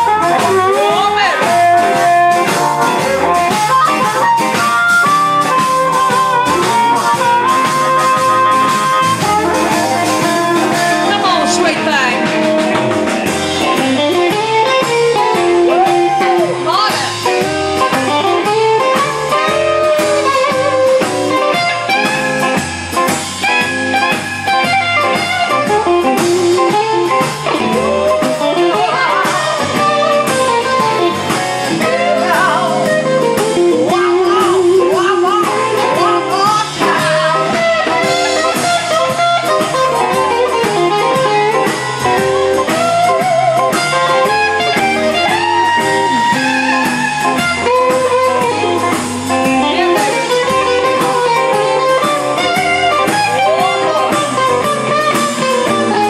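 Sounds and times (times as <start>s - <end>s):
blues band playing: 0.0s - 56.0s
electric guitar bending notes: 0.0s - 56.0s.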